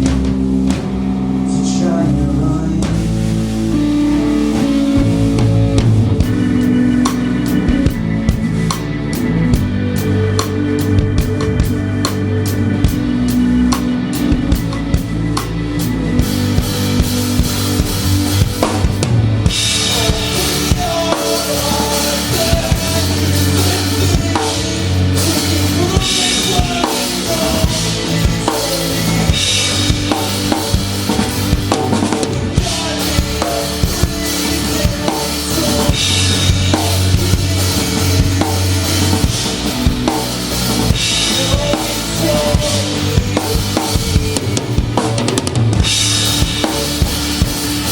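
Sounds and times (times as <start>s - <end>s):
bass line: 0.0s - 47.9s
drum kit beat: 0.0s - 47.9s
electric guitar notes: 0.0s - 47.9s.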